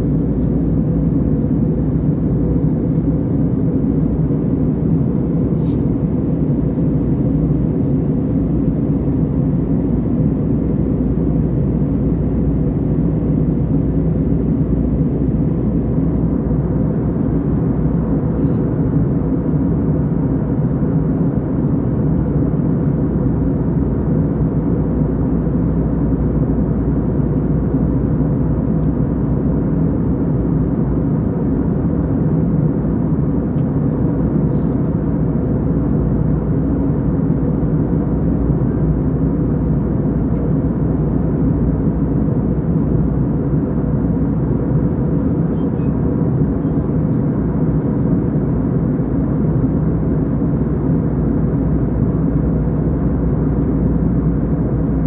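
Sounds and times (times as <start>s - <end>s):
airliner cabin engine drone: 0.0s - 55.0s.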